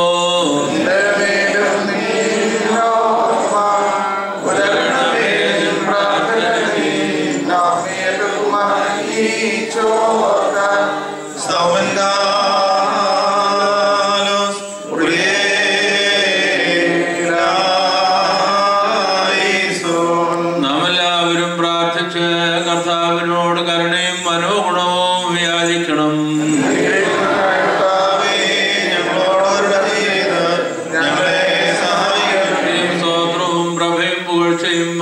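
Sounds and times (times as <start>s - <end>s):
men chanting a hymn: 0.0s - 35.0s.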